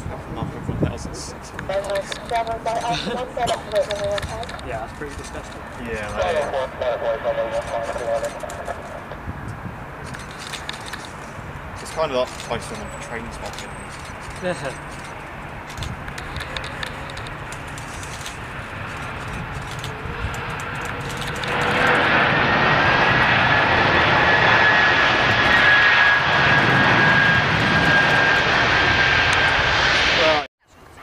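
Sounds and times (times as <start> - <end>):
jet engines rushing: 0.0 - 30.5.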